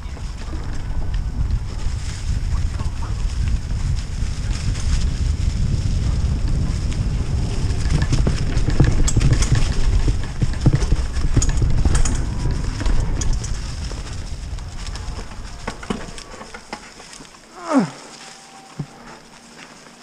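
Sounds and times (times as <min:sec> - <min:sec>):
bike clacking and rattling: 0:00.0 - 0:17.5
bike tyres rolling over leaves: 0:00.0 - 0:20.0.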